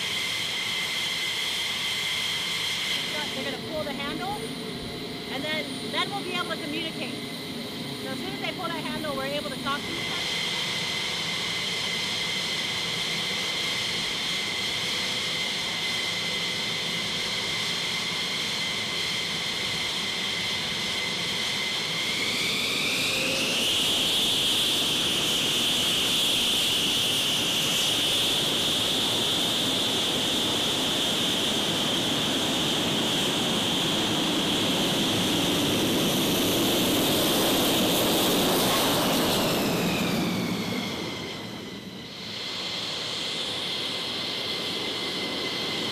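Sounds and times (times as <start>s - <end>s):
jet engine turbine whine: 0.0s - 45.9s.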